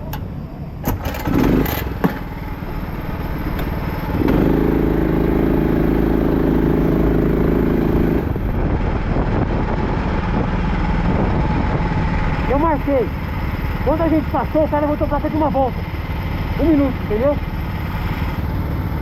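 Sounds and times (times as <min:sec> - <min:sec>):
go-kart engines running: 0:00.0 - 0:19.0.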